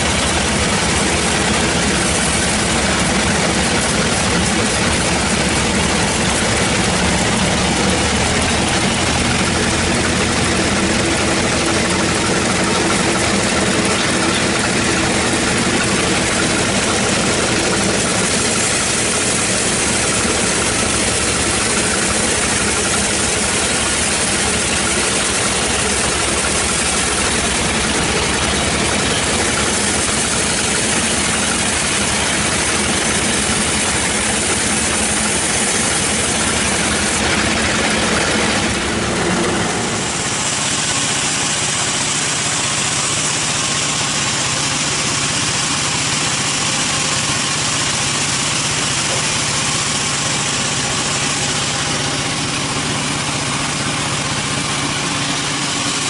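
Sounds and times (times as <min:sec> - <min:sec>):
band saw cutting wood: 0:00.0 - 0:56.0
low machine rumble: 0:00.0 - 0:56.0
machine hum: 0:00.0 - 0:56.0.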